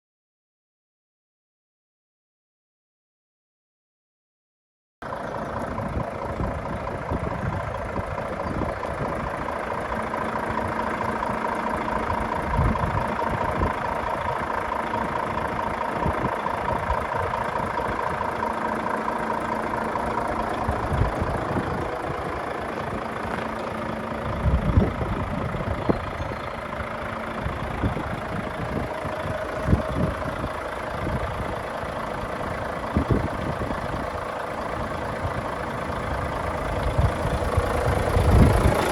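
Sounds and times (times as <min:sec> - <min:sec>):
diesel engine idling: 0:05.0 - 0:38.9.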